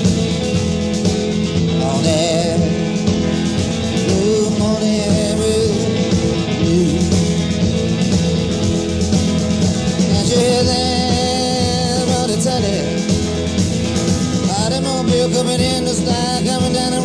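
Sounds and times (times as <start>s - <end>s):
lead guitar bending pitch: 0.0s - 17.0s
live rock band playing: 0.0s - 17.0s.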